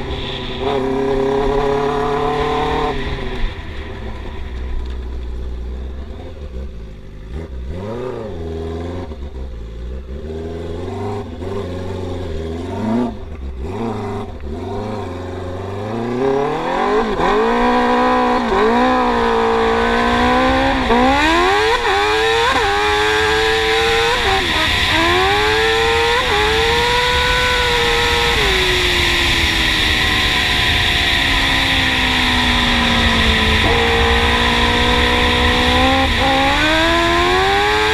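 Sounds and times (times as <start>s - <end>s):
quad engine revving: 0.0s - 4.2s, 6.4s - 37.9s.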